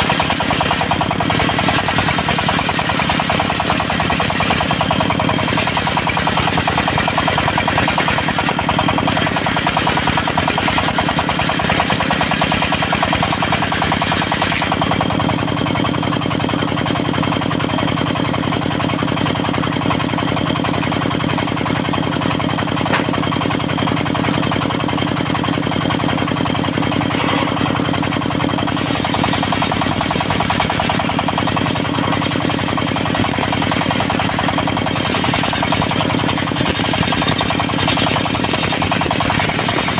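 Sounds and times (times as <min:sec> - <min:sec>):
diesel engine driving sawmill: 0:00.0 - 0:39.9.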